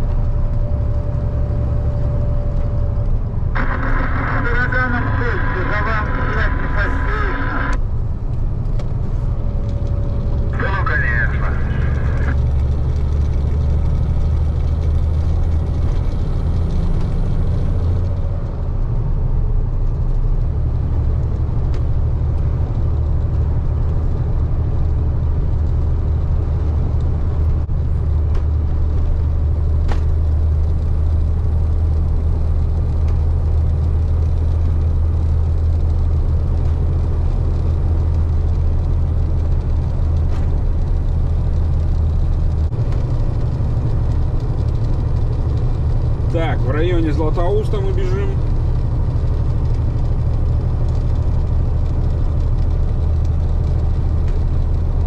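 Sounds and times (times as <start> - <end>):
road noise: 0.0 - 55.0
truck diesel engine droning: 0.0 - 55.0.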